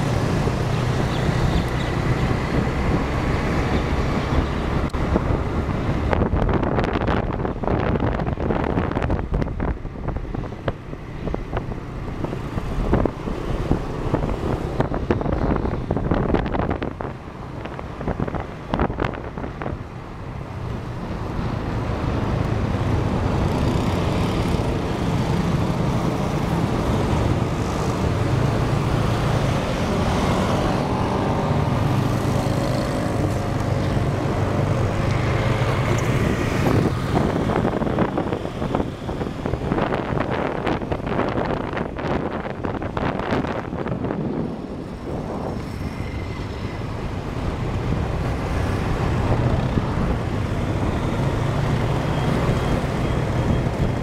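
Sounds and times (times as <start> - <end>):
road traffic: 0.0 - 54.0
wind buffeting microphone: 0.0 - 54.0.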